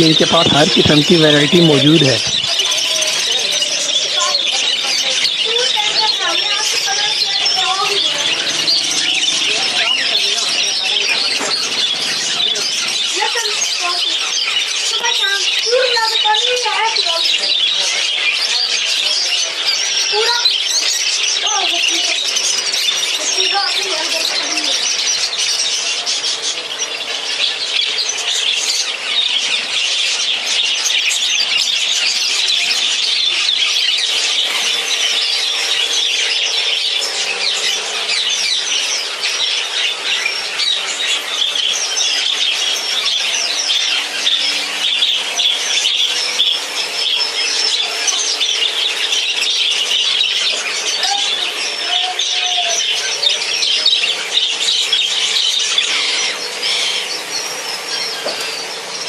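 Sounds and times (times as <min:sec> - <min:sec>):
parrots chirping and squawking: 0:00.0 - 0:59.0.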